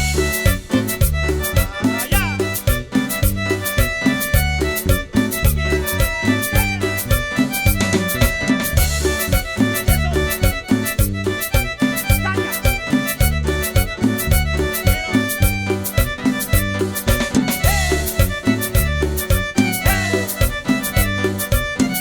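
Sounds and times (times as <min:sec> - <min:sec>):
latin dance band music: 0:00.0 - 0:22.0.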